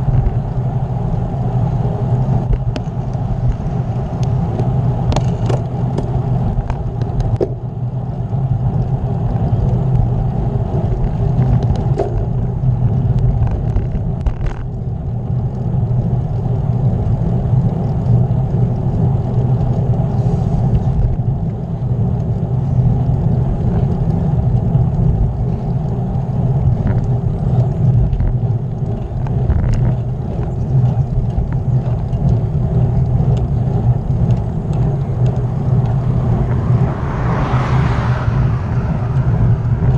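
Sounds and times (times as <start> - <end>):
bicycle tyre noise on road: 0.0 - 39.9
wind buffeting microphone: 0.0 - 39.9.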